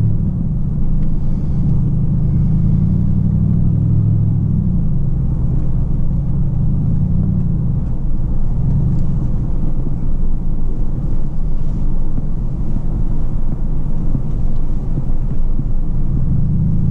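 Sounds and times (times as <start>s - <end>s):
car cabin road and engine rumble: 0.0s - 16.9s.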